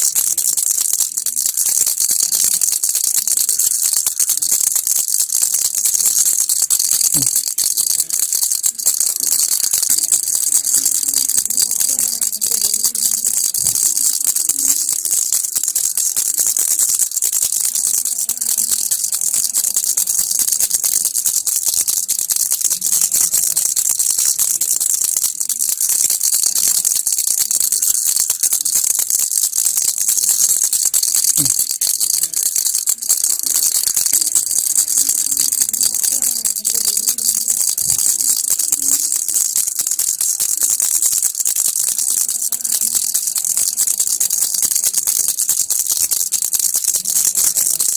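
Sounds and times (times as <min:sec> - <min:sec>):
baby's toy rattle shaken: 0:00.0 - 0:47.9.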